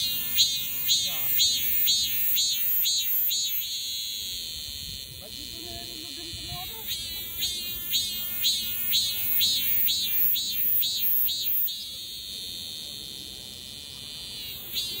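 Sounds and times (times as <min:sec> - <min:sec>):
cicada buzzing: 0:00.0 - 0:15.0.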